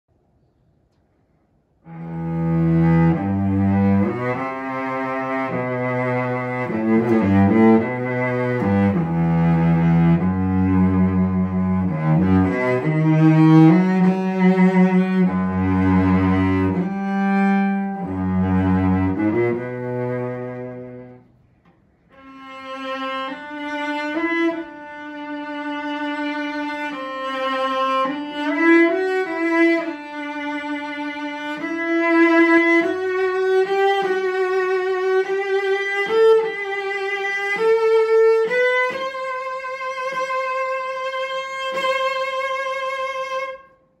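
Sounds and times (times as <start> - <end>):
bowed cello: 1.8 - 44.0.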